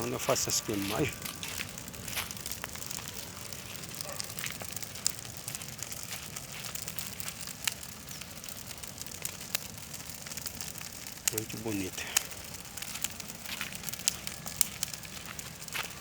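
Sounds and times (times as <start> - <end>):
bonfire crackling: 0.0 - 16.0
fire popping: 0.0 - 16.0.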